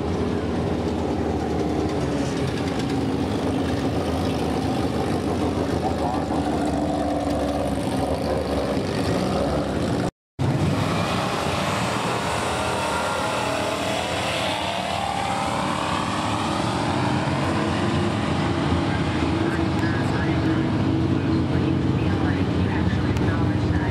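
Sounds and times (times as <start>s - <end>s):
car engine accelerating: 0.0s - 23.8s.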